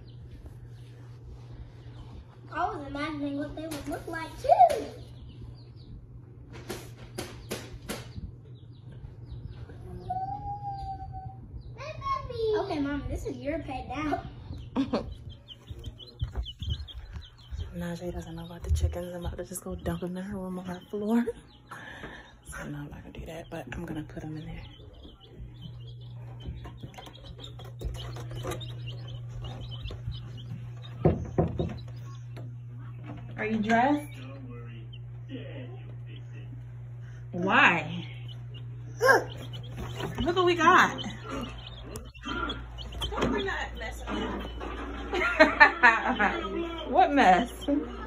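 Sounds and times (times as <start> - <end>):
baby chicks peeping: 0.0 - 48.0
steady low hum: 0.0 - 48.0.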